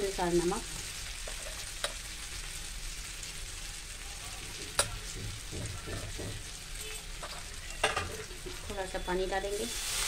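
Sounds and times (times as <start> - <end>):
masala sizzling in hot oil: 0.0 - 10.0.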